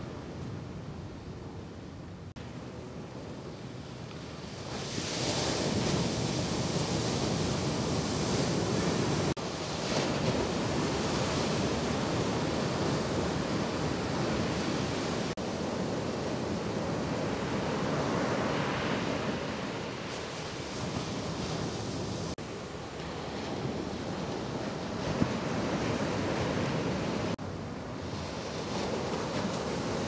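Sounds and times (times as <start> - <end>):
ocean surf breaking: 2.4 - 30.0.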